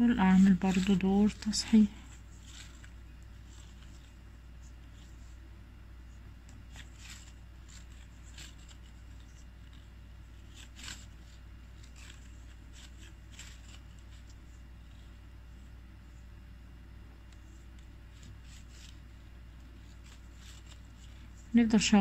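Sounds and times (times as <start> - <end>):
crochet hook and thread rustling: 0.0 - 15.2, 17.3 - 21.6
low hum: 0.0 - 22.0.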